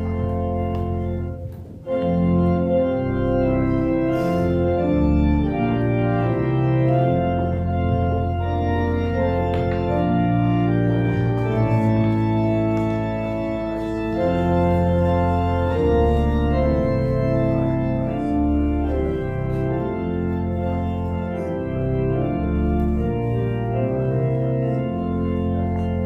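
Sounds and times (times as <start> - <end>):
church organ chords: 0.0 - 26.0.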